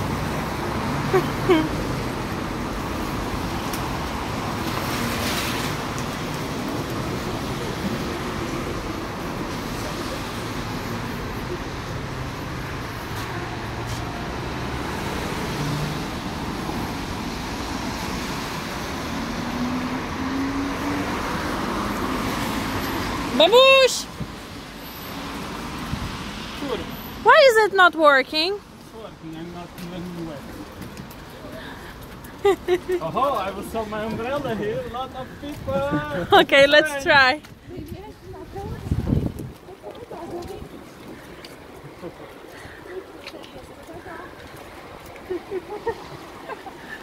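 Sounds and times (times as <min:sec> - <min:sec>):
rain: 0:00.0 - 0:27.5, 0:28.6 - 0:47.0
traffic on wet roads: 0:00.0 - 0:47.0.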